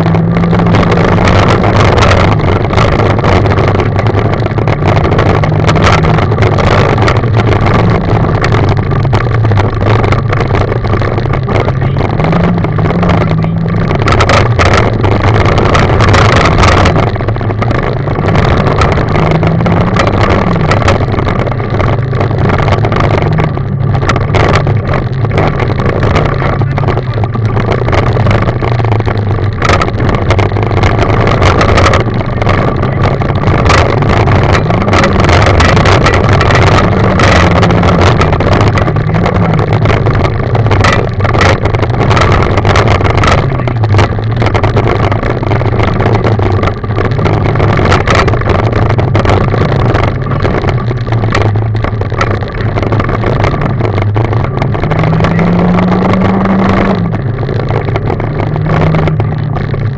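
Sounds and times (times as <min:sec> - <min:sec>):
gravel clattering on underside: 0:00.0 - 0:59.9
rally car engine from inside: 0:00.0 - 0:59.9.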